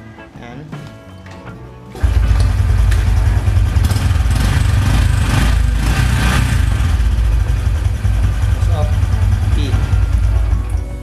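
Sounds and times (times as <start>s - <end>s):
motorcycle engine running: 2.0s - 11.0s.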